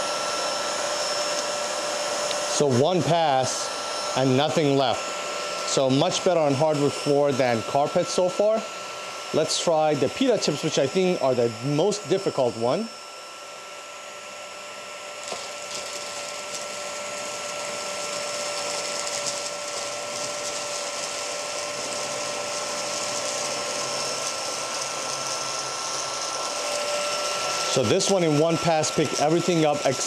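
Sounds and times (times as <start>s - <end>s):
stick vacuum running: 0.0s - 30.0s.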